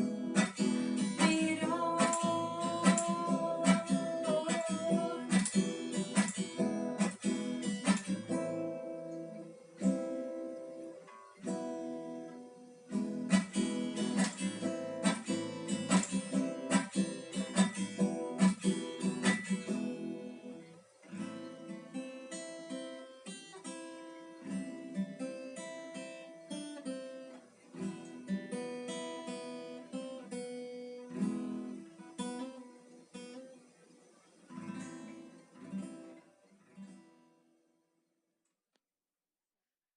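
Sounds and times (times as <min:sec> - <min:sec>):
acoustic guitar strumming: 0:00.0 - 0:37.6.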